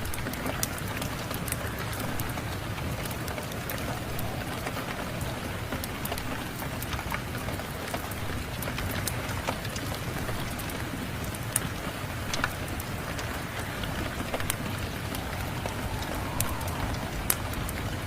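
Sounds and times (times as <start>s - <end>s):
steady rain falling: 0.0s - 18.0s
wood fire crackling: 0.0s - 18.0s.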